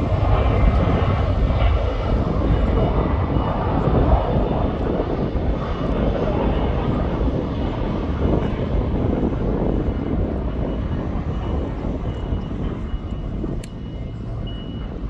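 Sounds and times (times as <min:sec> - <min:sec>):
jet engines at take-off power: 0:00.0 - 0:15.0.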